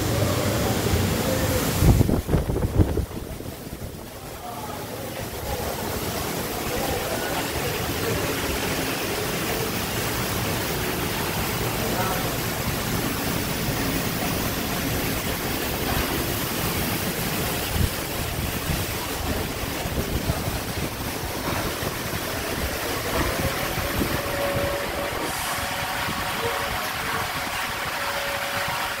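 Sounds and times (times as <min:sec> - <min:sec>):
foam pouring over car: 0:00.0 - 0:29.0
water spraying and splashing: 0:00.0 - 0:29.0.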